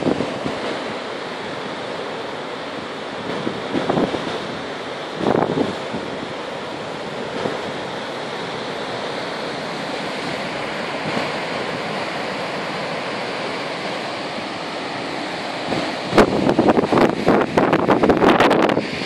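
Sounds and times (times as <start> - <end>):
sea surf among rocks: 0.0 - 19.0.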